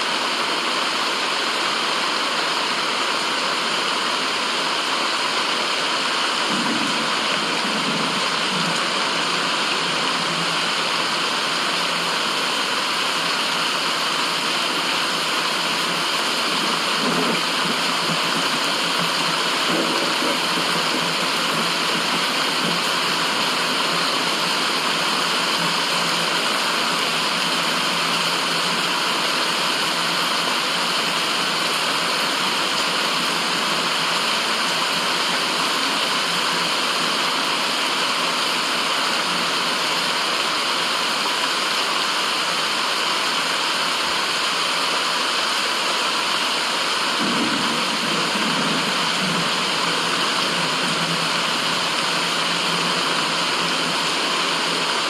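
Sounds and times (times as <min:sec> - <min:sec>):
rushing water hiss: 0:00.0 - 0:55.0.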